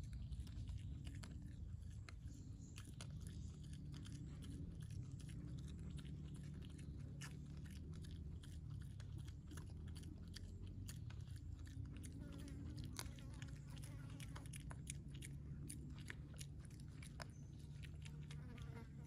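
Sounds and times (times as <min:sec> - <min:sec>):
pig chewing: 0:00.0 - 0:19.0
steady low hum: 0:00.0 - 0:19.0.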